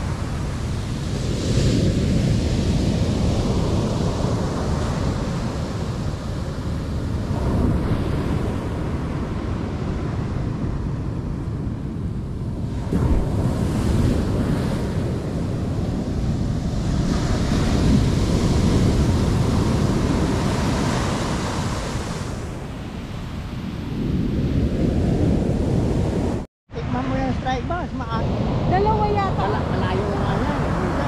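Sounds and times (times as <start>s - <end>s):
ocean surf on sandy beach: 0.0s - 31.0s
wind buffeting microphone: 0.0s - 31.0s.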